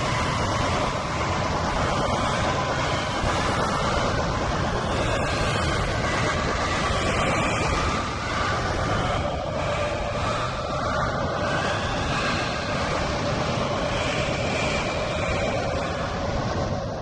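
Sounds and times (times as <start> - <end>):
rushing wind: 0.0 - 17.0.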